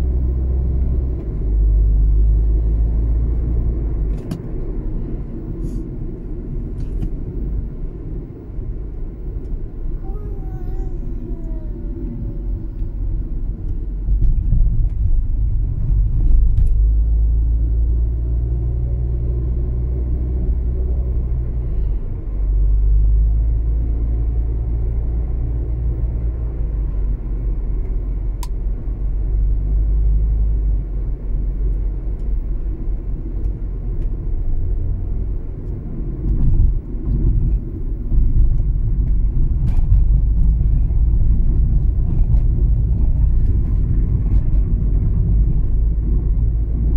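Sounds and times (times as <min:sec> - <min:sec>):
car engine and tyre rumble: 0:00.0 - 0:46.9.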